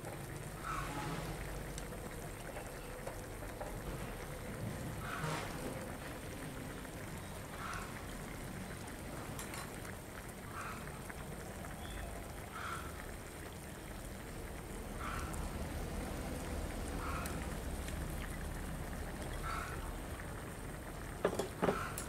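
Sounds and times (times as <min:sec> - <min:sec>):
pot boiling hard: 0:00.0 - 0:22.0.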